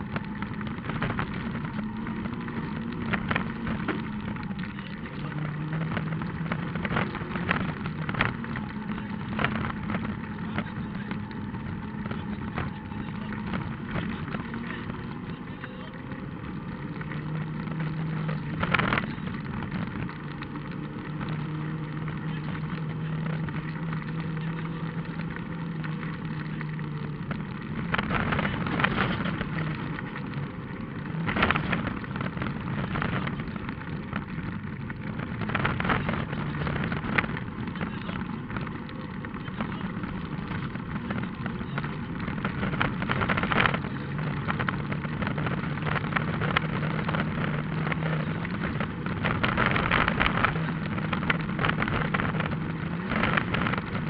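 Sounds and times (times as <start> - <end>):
rally car engine: 0.0 - 54.0
tyres on gravel: 0.0 - 54.0.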